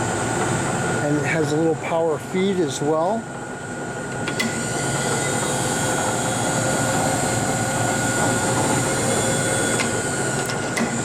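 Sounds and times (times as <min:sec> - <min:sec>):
milling machine motor whine: 0:00.0 - 0:11.0.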